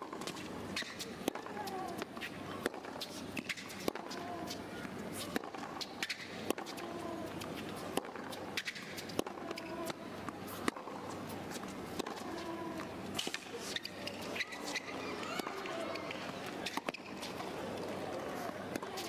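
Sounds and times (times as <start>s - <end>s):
shoe soles squeaking on court: 0.2s - 9.9s, 10.5s - 19.0s.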